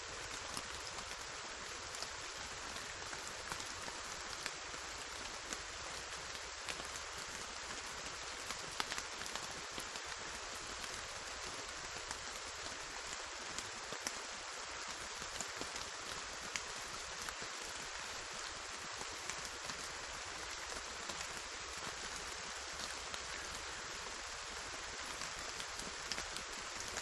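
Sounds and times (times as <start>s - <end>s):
raindrops pattering: 0.0s - 27.0s
steady rain hiss: 0.0s - 27.0s.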